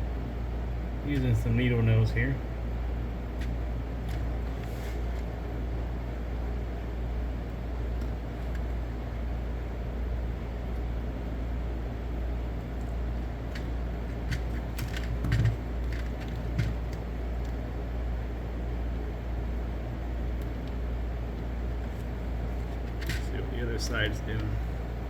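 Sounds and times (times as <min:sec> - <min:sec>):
low hum and rumble: 0:00.0 - 0:25.0.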